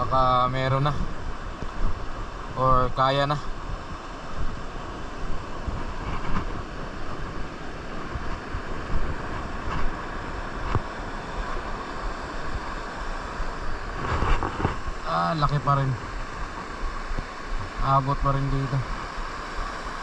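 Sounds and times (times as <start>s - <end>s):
large waves washing in: 0.0s - 20.0s
wind rumbling on microphone: 0.0s - 20.0s.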